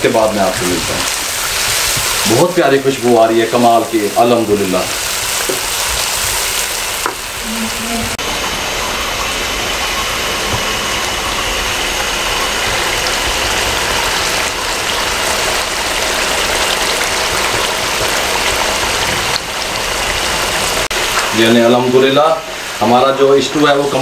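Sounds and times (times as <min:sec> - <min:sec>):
stew simmering and sizzling: 0:00.0 - 0:24.0.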